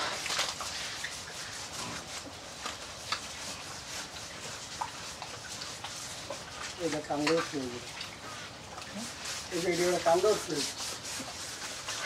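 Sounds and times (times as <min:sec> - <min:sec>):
hands scrubbing wet skin: 0:00.0 - 0:12.0.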